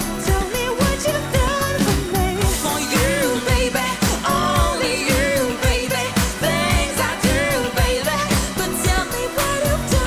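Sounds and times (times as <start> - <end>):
woman singing into a microphone: 0.0 - 10.0
band with steady drum beat: 0.1 - 10.0.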